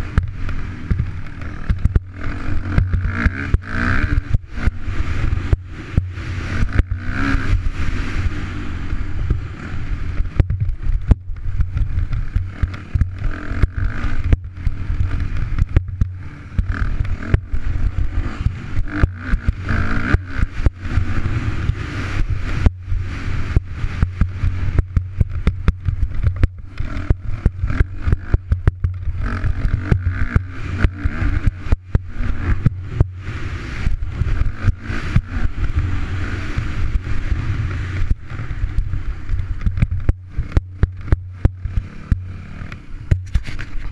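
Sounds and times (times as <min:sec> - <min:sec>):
motorcycle engine revving: 0:00.0 - 0:43.9
sharp microphone crackles: 0:00.0 - 0:43.9.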